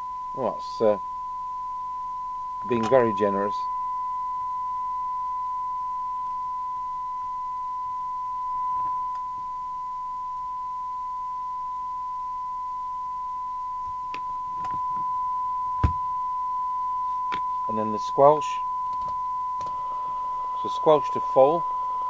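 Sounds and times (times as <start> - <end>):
steady test tone: 0.0 - 22.0.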